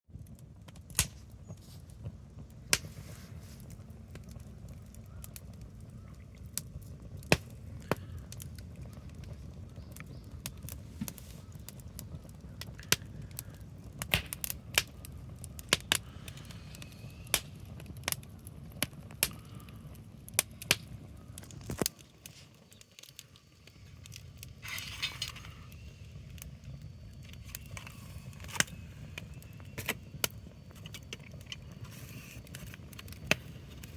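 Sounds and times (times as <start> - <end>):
wood fire crackling: 0.1 - 33.9.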